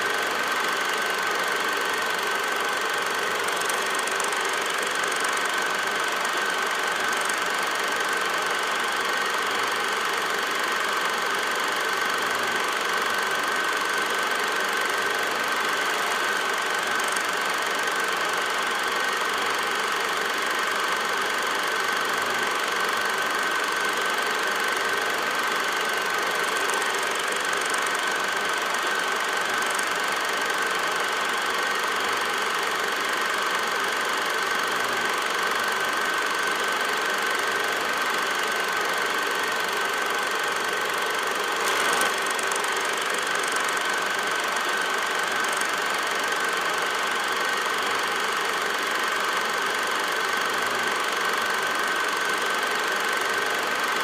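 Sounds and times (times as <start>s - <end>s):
film projector running: 0.0s - 54.0s.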